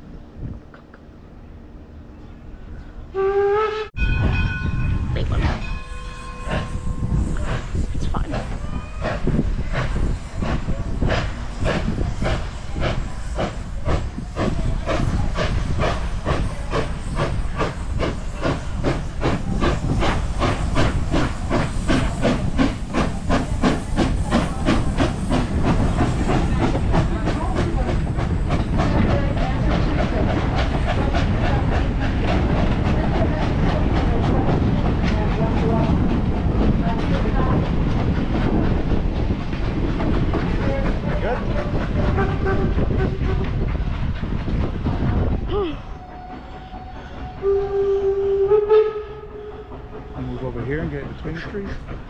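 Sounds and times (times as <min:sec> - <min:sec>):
steam locomotive exhaust chuffs: 0:03.2 - 0:52.0
steam hiss: 0:05.7 - 0:52.0.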